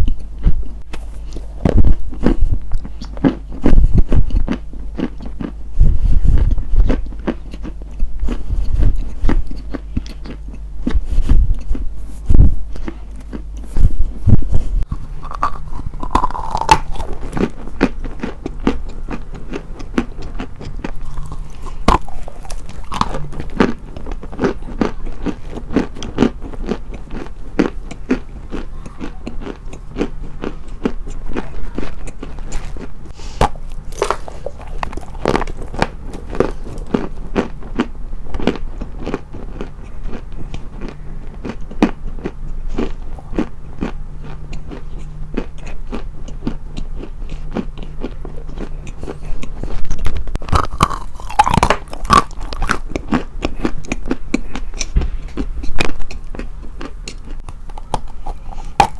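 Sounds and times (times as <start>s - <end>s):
crunching chewing: 0.0s - 58.9s.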